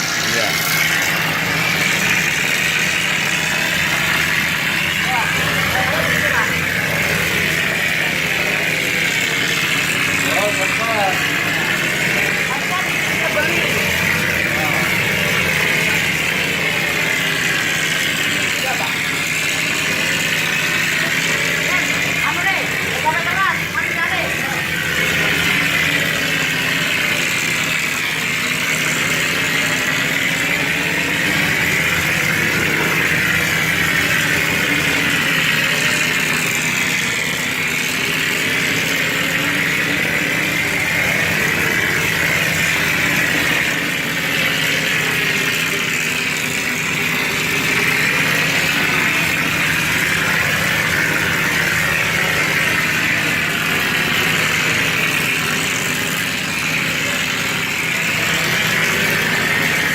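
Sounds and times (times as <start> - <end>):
spraying machine hiss and drone: 0.0 - 59.9.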